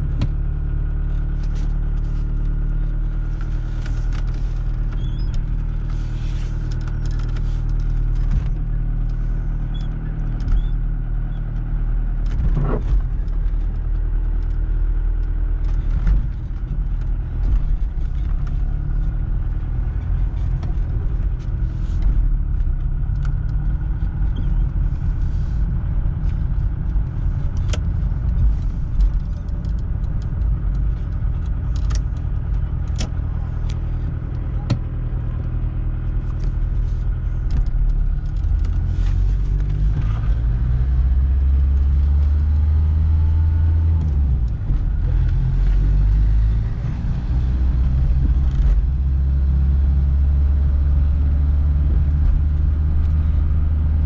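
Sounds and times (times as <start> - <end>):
car engine hum: 0.0 - 54.0
road rumble: 0.0 - 54.0.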